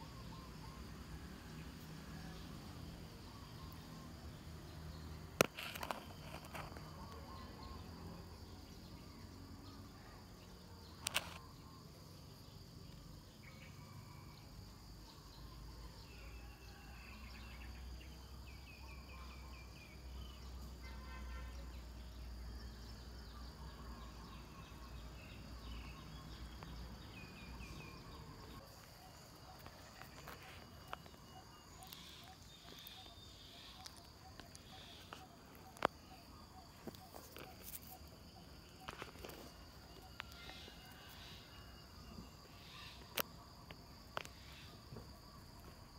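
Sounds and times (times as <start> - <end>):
short insect chirps: 0.0 - 45.9.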